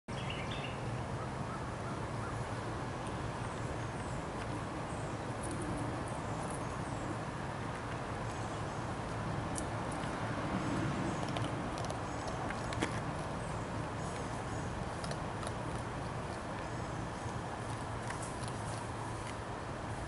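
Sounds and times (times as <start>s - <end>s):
low outdoor road rumble: 0.1s - 20.0s.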